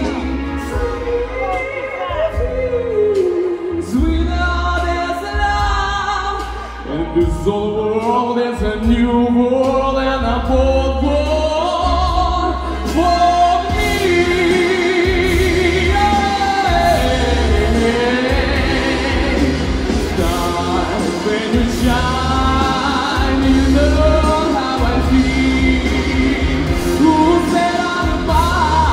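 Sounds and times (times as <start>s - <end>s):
man singing into microphone: 0.0s - 28.9s
pop backing music: 0.0s - 28.9s.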